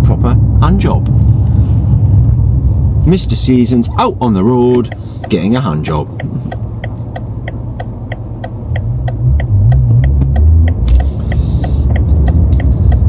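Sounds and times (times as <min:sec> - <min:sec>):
car engine and road rumble: 0:00.0 - 0:13.0
turn signal ticking: 0:02.2 - 0:13.0.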